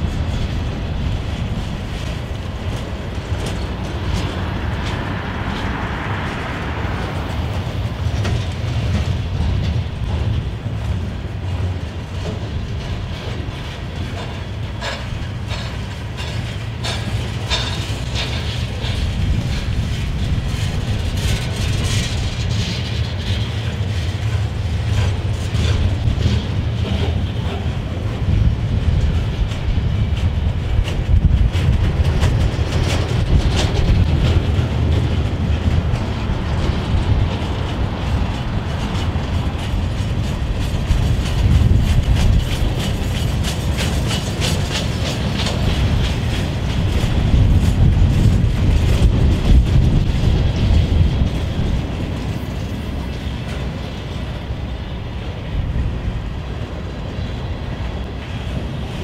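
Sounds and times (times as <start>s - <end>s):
train wheels rumbling on rails: 0.0s - 59.0s
wheels clanking over rail joints: 0.0s - 59.0s.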